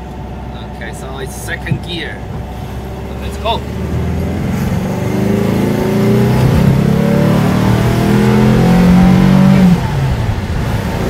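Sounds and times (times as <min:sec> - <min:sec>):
engine accelerating hard: 0:00.0 - 0:11.0.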